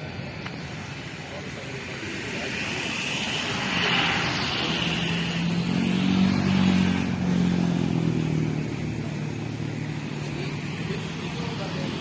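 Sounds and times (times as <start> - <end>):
vehicle engine passing by: 2.1 - 12.0.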